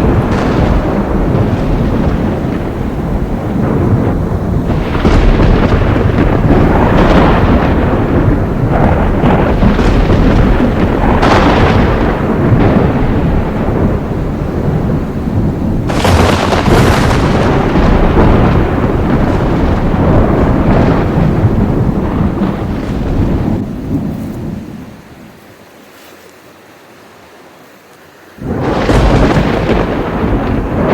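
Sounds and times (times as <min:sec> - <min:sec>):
sharp thunder cracks: 0:00.0 - 0:24.9, 0:28.4 - 0:30.9
low rumble of thunder: 0:00.0 - 0:25.4, 0:28.4 - 0:30.9
heavy rain: 0:00.0 - 0:30.9.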